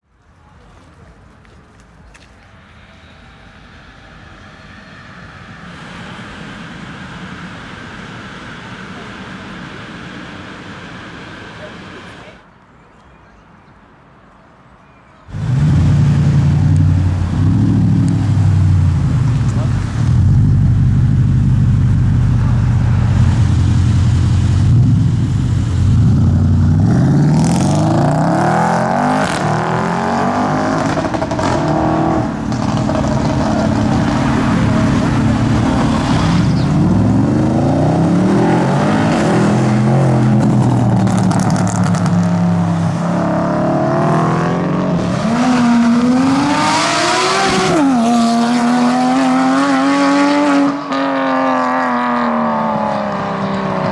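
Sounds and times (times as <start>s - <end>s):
car engine revving: 2.6s - 12.4s, 15.3s - 53.9s.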